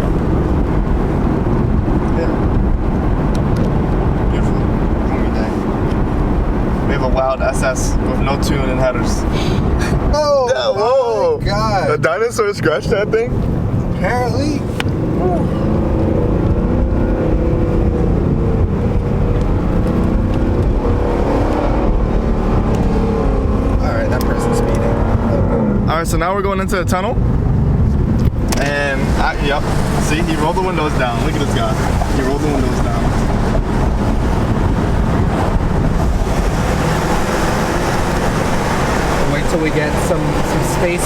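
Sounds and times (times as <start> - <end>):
loud car engine running: 0.0 - 10.2, 12.7 - 41.0
wind buffeting microphone: 0.0 - 10.4, 13.0 - 41.0
traffic rumble in tunnel: 0.0 - 41.0.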